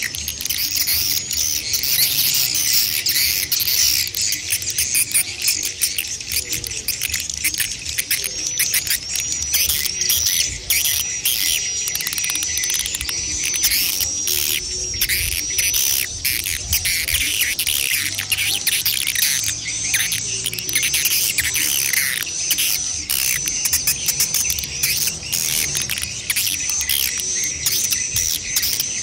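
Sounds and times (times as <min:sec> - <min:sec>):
swiftlets twittering: 0:00.0 - 0:29.0.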